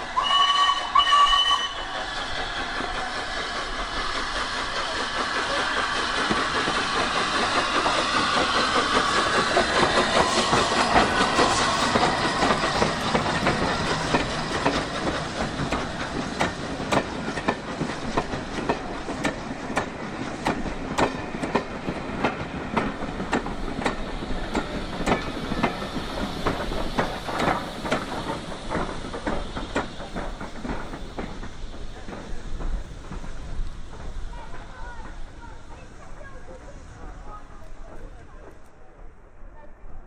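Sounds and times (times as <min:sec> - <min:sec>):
steady train rumble: 0:00.0 - 0:40.0
train wheels clicking over rail joints: 0:01.3 - 0:39.2.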